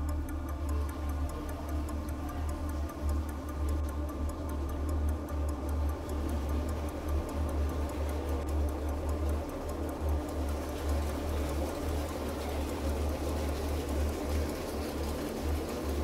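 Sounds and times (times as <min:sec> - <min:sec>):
fast even ticking: 0:00.0 - 0:16.0
steady low hum: 0:00.0 - 0:16.0.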